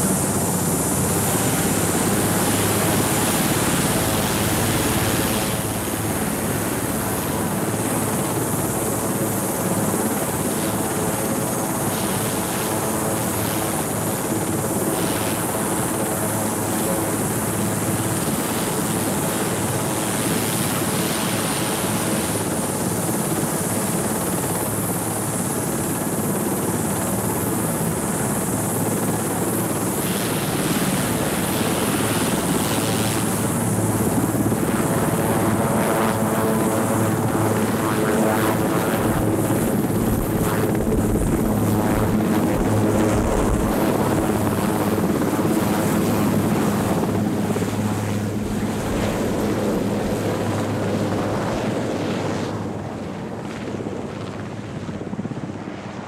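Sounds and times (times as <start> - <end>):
high turbine whine: 0.0 - 53.2
helicopter rotor noise: 0.0 - 56.0.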